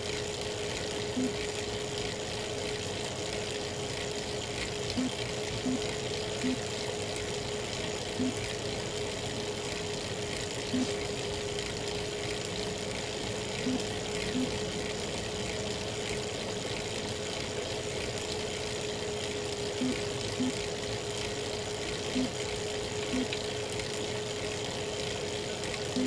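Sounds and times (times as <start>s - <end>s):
bike trainer whining: 0.0s - 26.0s.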